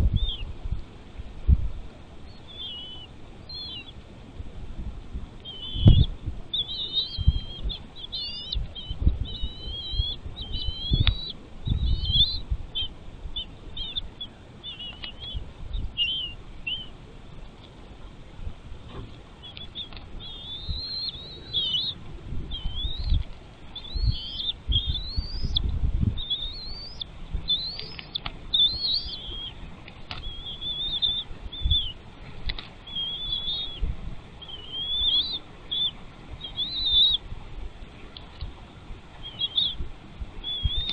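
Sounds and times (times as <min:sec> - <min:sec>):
bird chirping: 0:00.0 - 0:00.8, 0:02.0 - 0:04.0, 0:05.4 - 0:18.1, 0:18.9 - 0:37.2, 0:37.9 - 0:39.8, 0:40.4 - 0:40.9.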